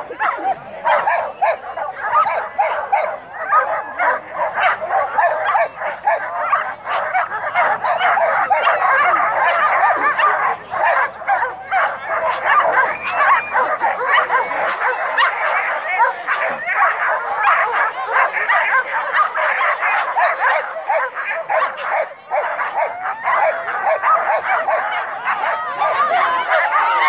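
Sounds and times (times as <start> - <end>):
dogs barking and whining: 0.0 - 27.0.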